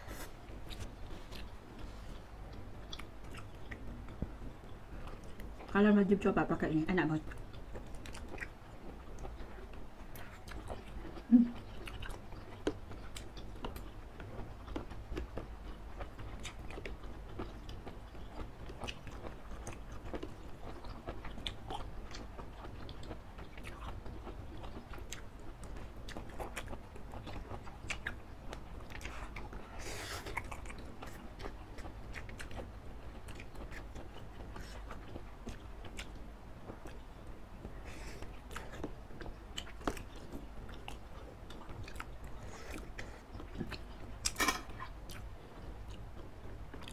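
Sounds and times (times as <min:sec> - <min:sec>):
chewing and mouth smacks: 0:00.6 - 0:05.7, 0:07.3 - 0:46.9.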